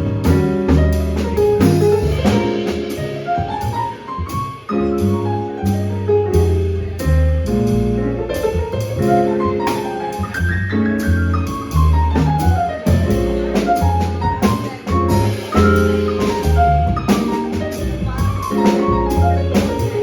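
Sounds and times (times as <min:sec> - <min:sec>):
drum kit: 0:00.0 - 0:20.0
piano: 0:00.0 - 0:20.0
walking bass line: 0:00.0 - 0:20.0.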